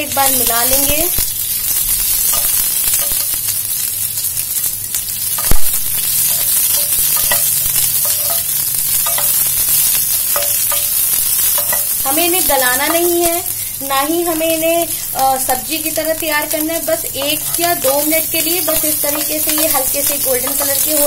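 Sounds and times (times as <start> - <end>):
vegetables sizzling in oil: 0.0 - 21.0
spatula stirring in a pan: 1.4 - 13.8, 16.4 - 21.0.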